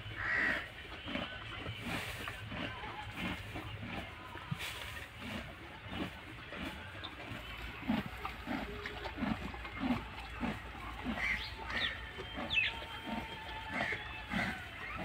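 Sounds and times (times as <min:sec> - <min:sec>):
horse chewing: 0:00.0 - 0:15.0.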